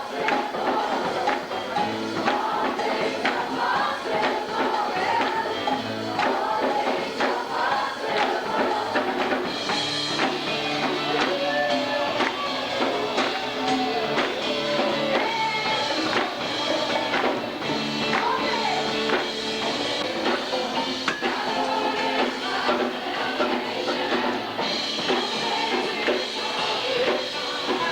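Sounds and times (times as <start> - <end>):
band playing: 0.0 - 27.9
drums keeping a steady beat: 0.0 - 27.9
voices singing: 0.0 - 27.9.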